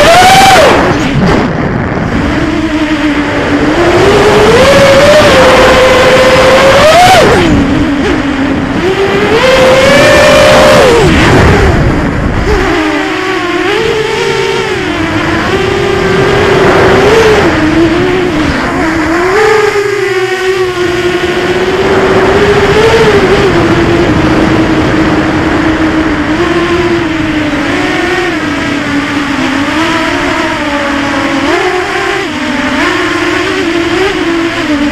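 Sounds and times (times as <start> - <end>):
drone motors whining: 0.0 - 34.9
heavy rumble: 0.0 - 34.9.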